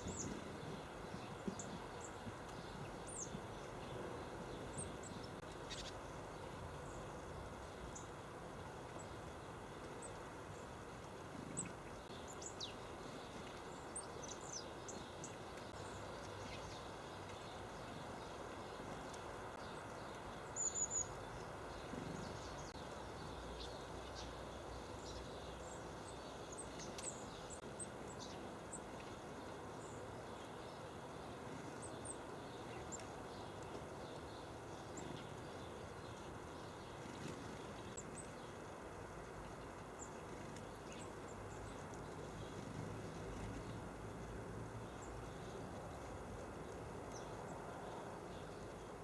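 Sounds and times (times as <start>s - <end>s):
outdoor background hiss: 0.0s - 49.0s
songbirds chirping: 0.0s - 49.0s.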